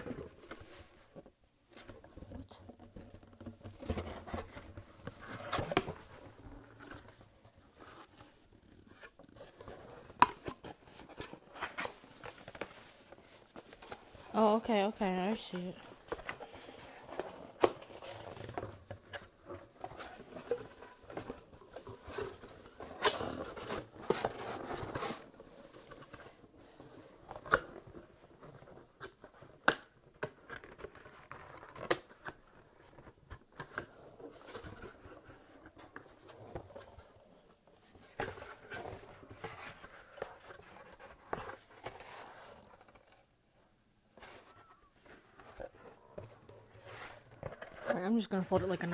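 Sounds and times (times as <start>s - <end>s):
cardboard rustling and scraping: 0.0s - 48.9s.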